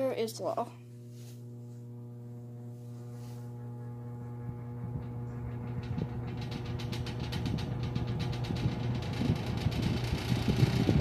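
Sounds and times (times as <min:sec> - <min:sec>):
fan motor humming: 0:00.0 - 0:11.0.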